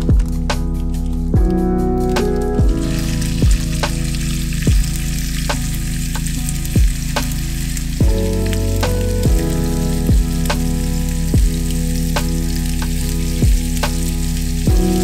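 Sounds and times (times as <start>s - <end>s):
background music slow beat: 0.0s - 15.0s
meat sizzling in a frying pan: 2.8s - 15.0s.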